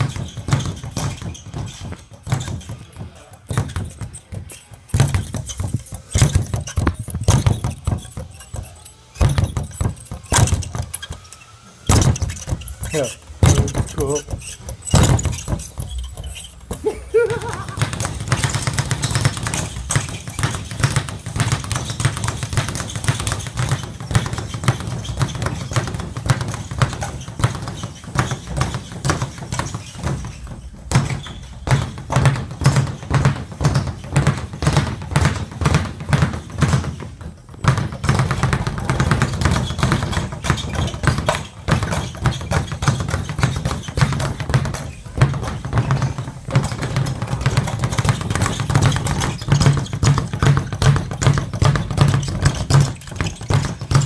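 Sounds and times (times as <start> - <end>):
speed bag punching rhythm: 0.0 - 54.0.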